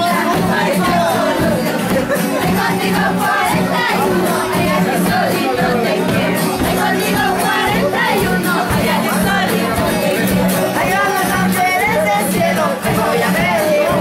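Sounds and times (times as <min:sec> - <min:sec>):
crowd voices: 0:00.0 - 0:14.0
group singing: 0:00.0 - 0:14.0
strummed acoustic guitars: 0:00.0 - 0:14.0.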